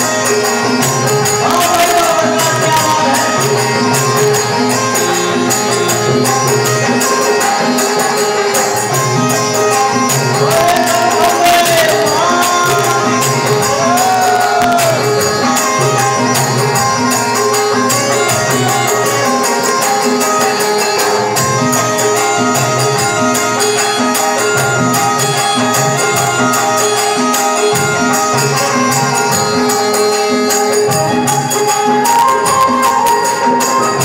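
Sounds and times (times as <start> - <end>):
hand drum rhythm: 0.0 - 34.0
harmonium and keyboard melody: 0.0 - 34.0
jingling percussion: 0.0 - 34.0.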